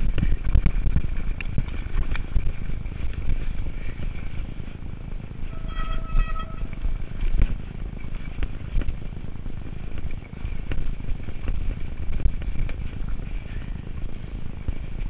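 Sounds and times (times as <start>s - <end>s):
bike rattling over bumps: 0.0s - 15.0s
wind on microphone: 0.0s - 15.0s.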